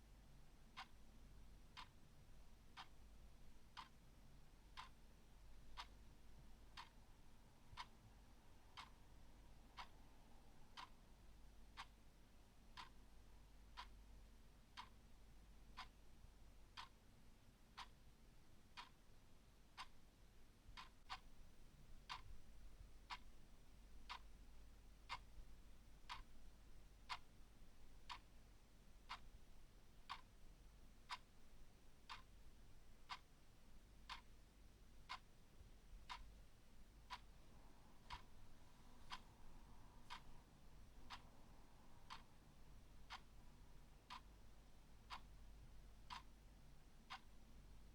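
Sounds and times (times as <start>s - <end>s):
clock ticking: 0.6s - 17.1s, 17.8s - 18.1s, 18.8s - 19.1s, 19.8s - 20.1s, 20.8s - 47.9s.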